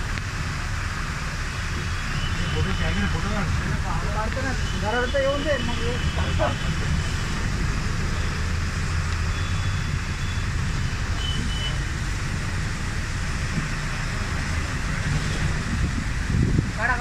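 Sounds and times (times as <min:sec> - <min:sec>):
vehicle driving on wet road: 0:00.0 - 0:17.0.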